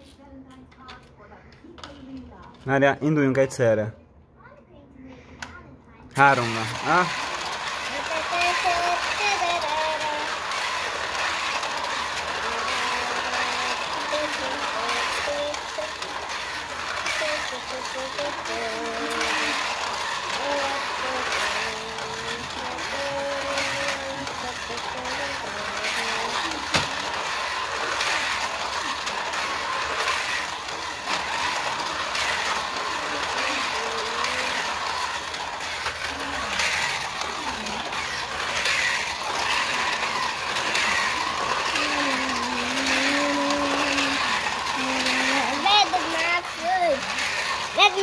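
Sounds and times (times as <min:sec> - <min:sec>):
faint motor whine: 0:04.9 - 0:48.0
slot car motors whirring: 0:05.2 - 0:48.0.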